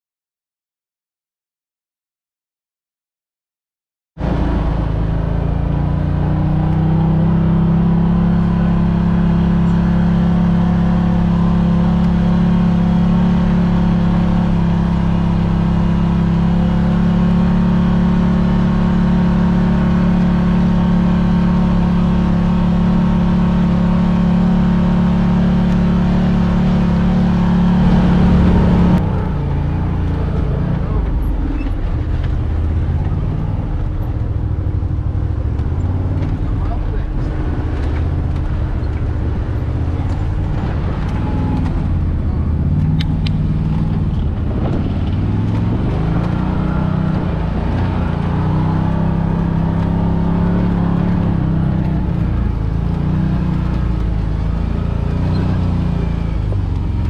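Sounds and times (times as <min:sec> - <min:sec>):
vehicle engine drone from inside cab: 0:04.2 - 0:57.0.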